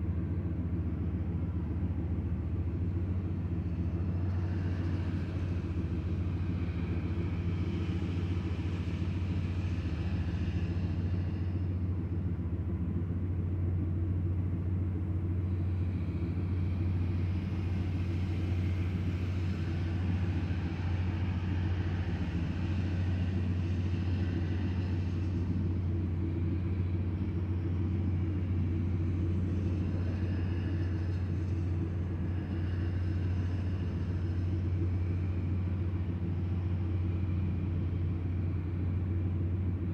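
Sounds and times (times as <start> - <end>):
engine idling hum: 0.0 - 39.9.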